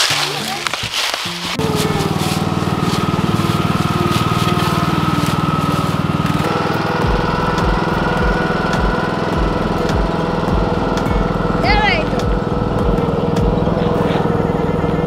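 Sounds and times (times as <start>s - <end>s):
lawn tractor engine running: 0.0s - 15.0s
dull low thumps: 0.8s - 15.0s.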